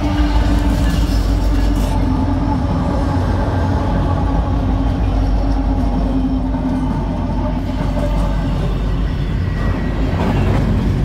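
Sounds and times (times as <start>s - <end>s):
locomotive engines droning: 0.0s - 11.0s
wheels rumbling on rails: 0.0s - 11.0s.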